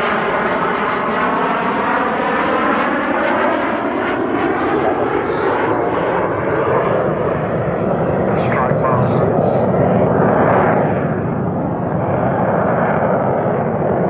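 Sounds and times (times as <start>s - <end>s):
jet engine whine passing overhead: 0.0s - 14.0s.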